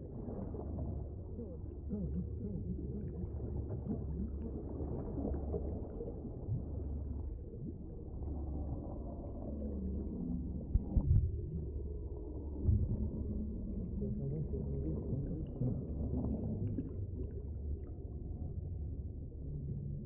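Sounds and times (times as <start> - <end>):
low rumbling ambience: 0.0 - 20.0.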